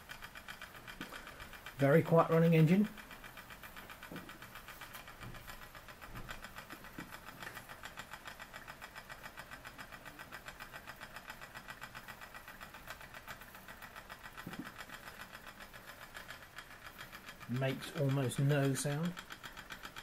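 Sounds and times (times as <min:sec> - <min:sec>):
model steam engine chuffing: 0:00.0 - 0:20.0.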